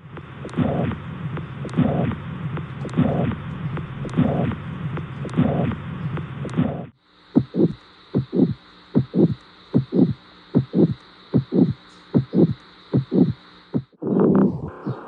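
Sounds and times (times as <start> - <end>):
heartbeat through stethoscope: 0.0 - 14.7.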